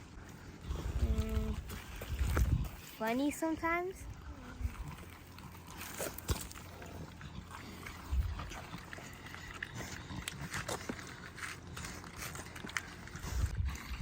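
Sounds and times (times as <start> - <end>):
pigs grunting and snuffling: 0.0 - 14.0.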